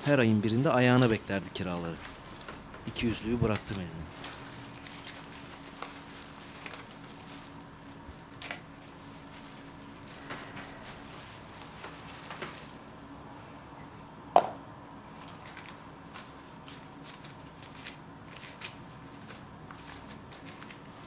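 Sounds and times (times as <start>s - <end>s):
paper rustling: 0.7s - 12.9s, 15.2s - 21.0s.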